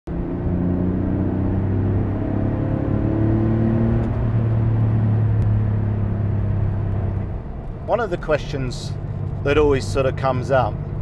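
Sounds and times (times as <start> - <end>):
car engine drone inside cabin: 0.1 - 11.0.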